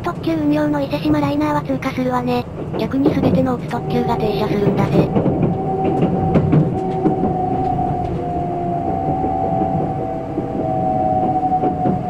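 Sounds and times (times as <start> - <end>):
train rumble with motor whine: 0.0 - 12.0
wheels clicking over rail joints: 0.0 - 12.0.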